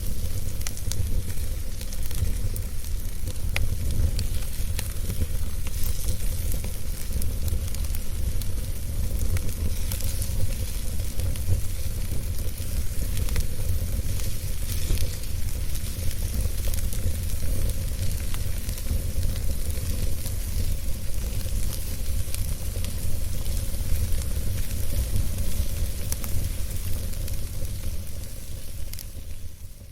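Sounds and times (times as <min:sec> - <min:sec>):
wood fire crackling and hissing: 0:00.0 - 0:29.9.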